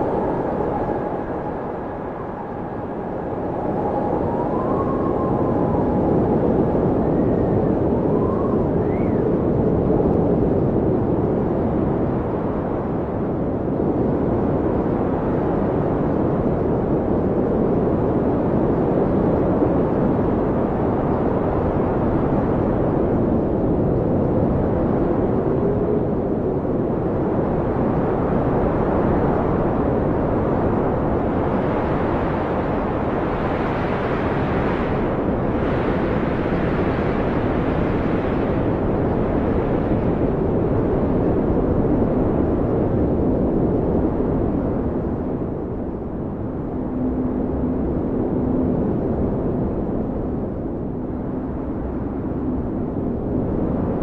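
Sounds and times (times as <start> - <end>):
howling wind: 0.0 - 54.0.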